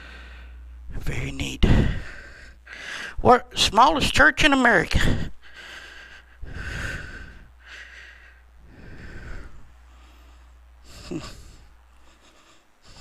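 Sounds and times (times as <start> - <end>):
person breathing: 0.0 - 0.8, 1.6 - 3.2, 5.0 - 13.0
low steady hum: 0.0 - 13.0.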